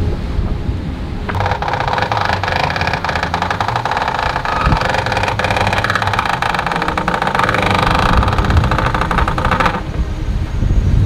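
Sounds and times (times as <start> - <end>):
wind: 0.0 - 11.0
electric winch ratcheting: 1.3 - 10.2.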